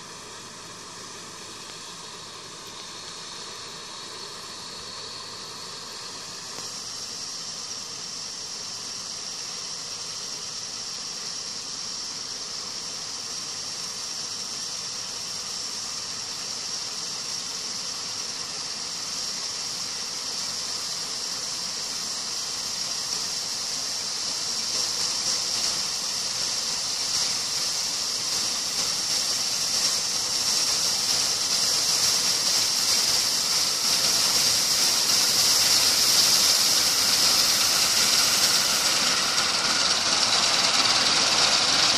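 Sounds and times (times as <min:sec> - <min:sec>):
combine harvester rushing hiss: 0:00.0 - 0:41.9.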